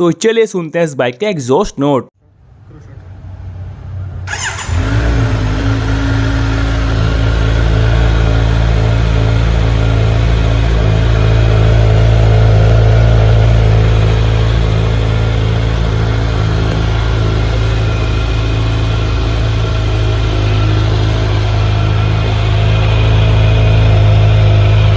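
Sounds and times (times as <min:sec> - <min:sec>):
motorcycle engine starting and idling: 0:03.8 - 0:24.9.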